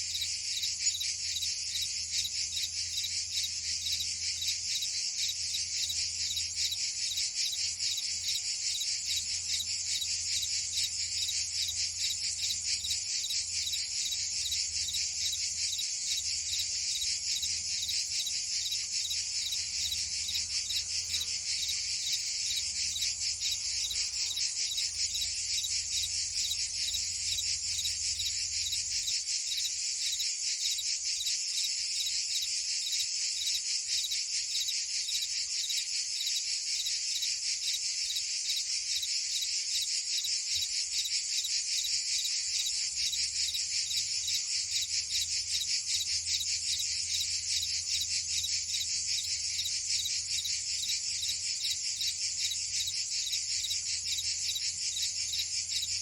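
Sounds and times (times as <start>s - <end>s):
cicadas and crickets buzzing: 0.0s - 56.0s.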